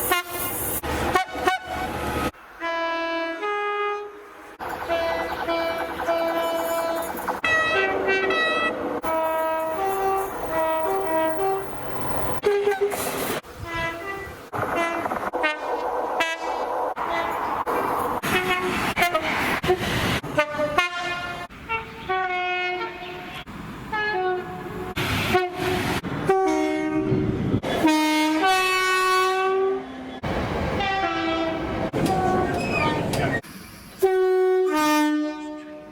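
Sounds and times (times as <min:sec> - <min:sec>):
train and rail noise: 0:00.0 - 0:35.9
two-tone train horn blasts: 0:02.6 - 0:04.2, 0:04.8 - 0:13.0, 0:13.6 - 0:17.4, 0:18.3 - 0:30.2, 0:30.8 - 0:32.6, 0:34.0 - 0:35.9.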